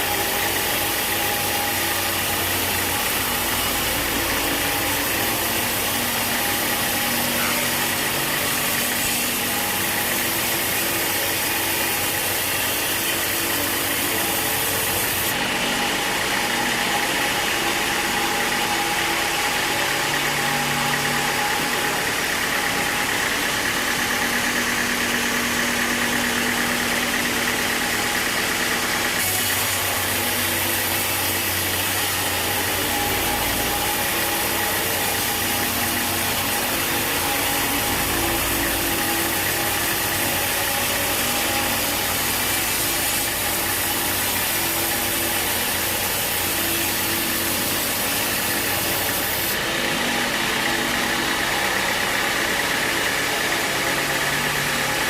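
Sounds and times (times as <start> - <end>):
sawmill machinery humming and hissing: 0.0 - 55.0.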